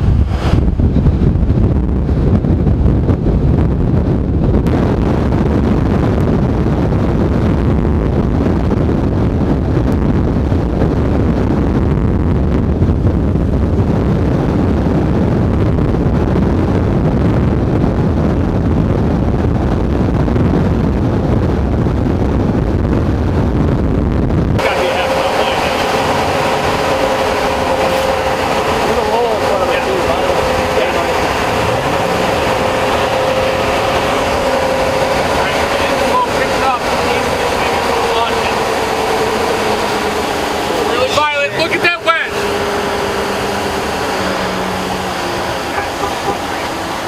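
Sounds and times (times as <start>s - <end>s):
strong wind on microphone: 0.0s - 47.0s.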